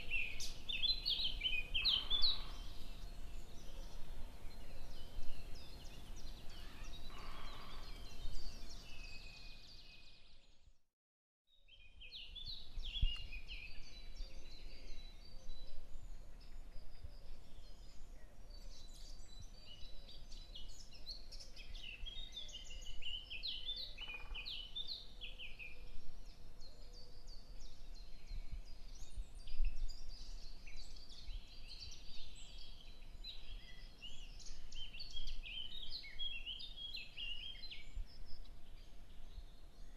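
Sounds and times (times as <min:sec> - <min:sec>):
small birds chirping: 0:00.0 - 0:10.7, 0:11.5 - 0:39.9.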